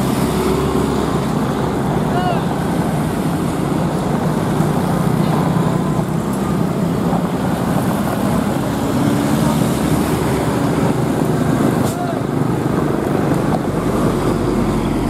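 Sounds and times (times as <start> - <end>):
motor scooters passing: 0.0 - 15.0
truck diesel engine running: 0.0 - 15.0.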